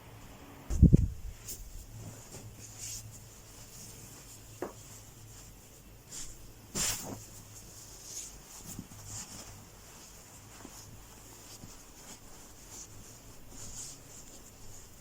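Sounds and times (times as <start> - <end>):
fabric rustle: 0.7 - 15.0.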